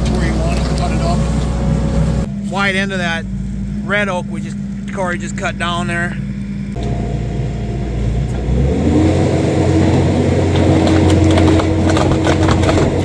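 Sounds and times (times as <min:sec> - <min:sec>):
hydraulic whine: 0:00.0 - 0:13.0
skid steer engine revving: 0:00.0 - 0:13.0.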